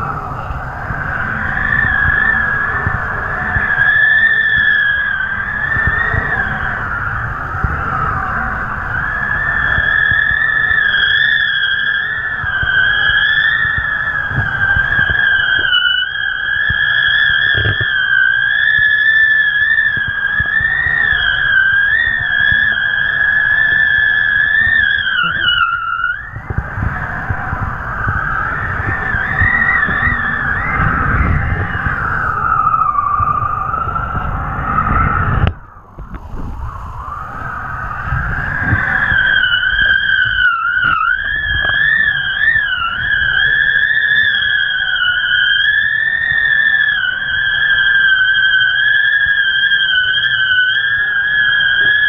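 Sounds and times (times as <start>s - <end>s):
low wind buffeting: 0.0s - 52.0s
wind whistling in kite lines: 0.0s - 52.0s.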